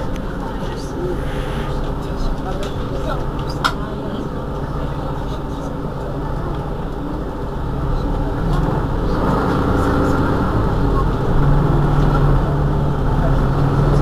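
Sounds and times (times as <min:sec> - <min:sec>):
bus engine humming: 0:00.0 - 0:14.0
road noise: 0:00.0 - 0:14.0.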